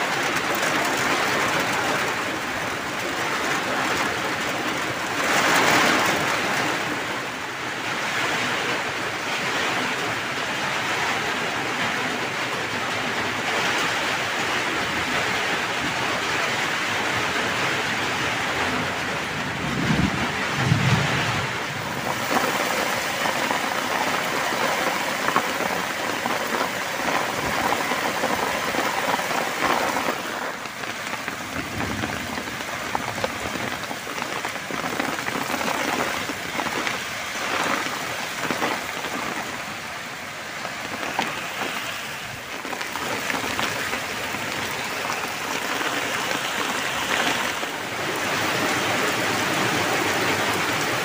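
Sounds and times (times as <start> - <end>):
heavy rain on ground and foliage: 0.0 - 51.0.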